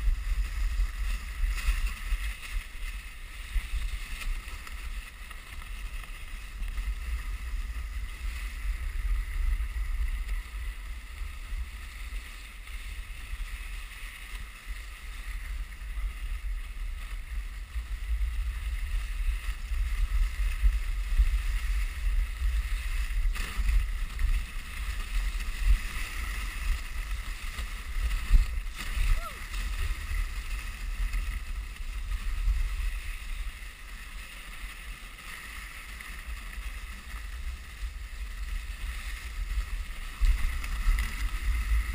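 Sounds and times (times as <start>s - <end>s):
low rumble of wind: 0.0s - 41.9s
sled runners hissing over snow: 0.0s - 41.9s.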